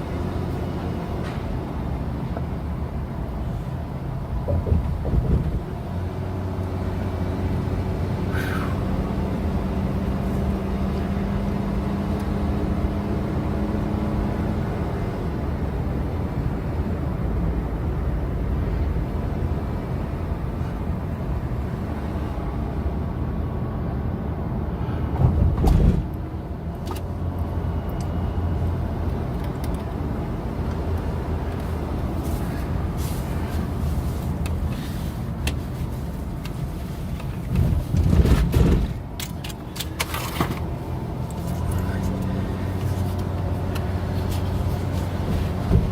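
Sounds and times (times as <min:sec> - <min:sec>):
car engine and road hum: 0:00.0 - 0:45.9.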